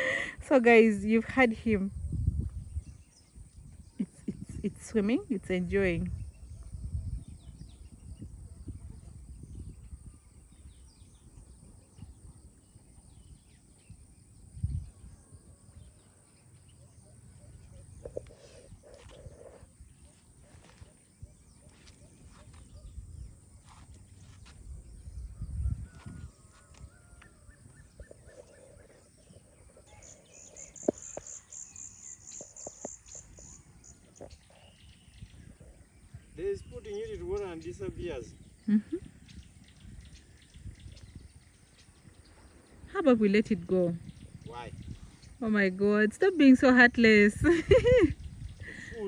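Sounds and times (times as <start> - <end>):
faint outdoor ambience: 0.0 - 49.0
faint bird chirps: 6.0 - 49.0.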